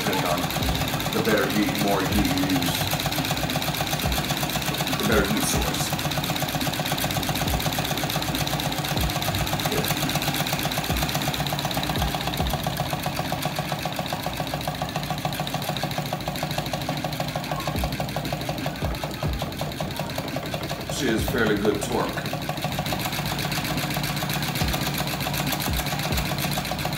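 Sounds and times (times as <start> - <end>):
small engine mechanical clatter: 0.0 - 26.9.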